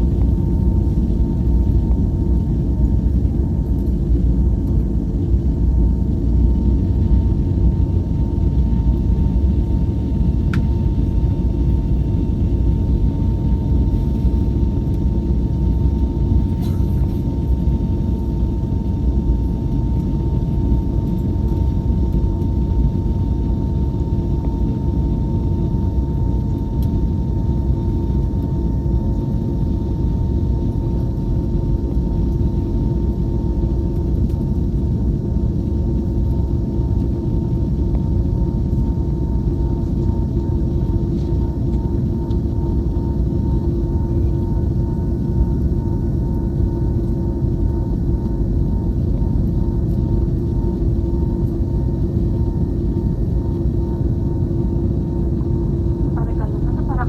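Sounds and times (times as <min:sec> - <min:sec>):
airliner cabin rumble: 0:00.0 - 0:57.0
faint constant whine: 0:00.0 - 0:57.0.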